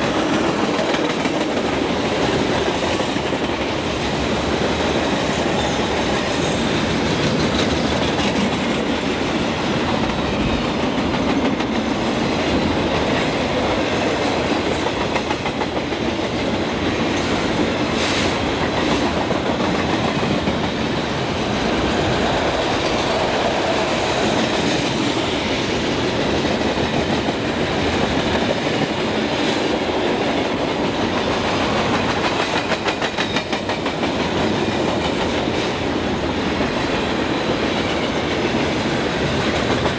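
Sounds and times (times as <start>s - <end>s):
freight train rumble: 0.0s - 39.9s
train wheels clicking over rail joints: 0.0s - 39.9s.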